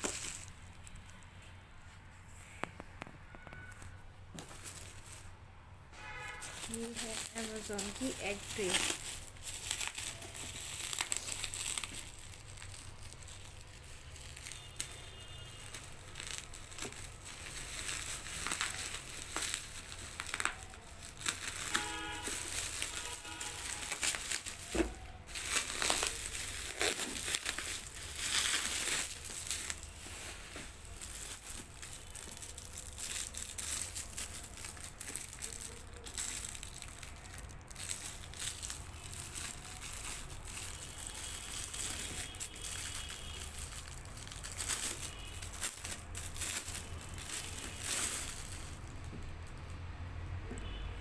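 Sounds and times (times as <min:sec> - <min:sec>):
packaging crinkling and rustling: 0:00.0 - 0:50.8.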